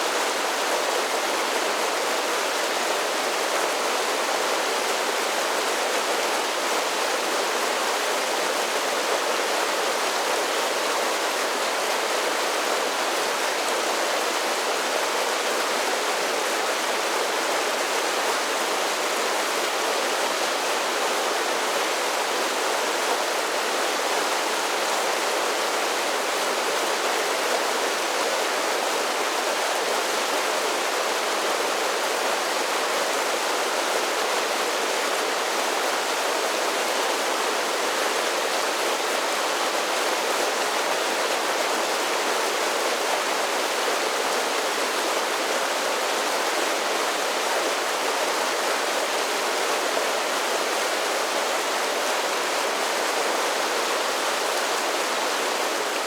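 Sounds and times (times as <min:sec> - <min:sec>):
creek rushing over waterfalls: 0:00.0 - 0:56.0.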